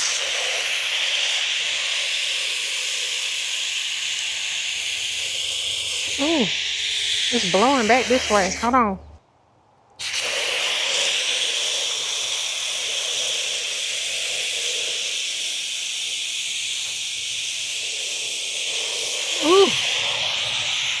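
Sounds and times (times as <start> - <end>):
pressure washer spraying: 0.0 - 8.9, 10.0 - 21.0.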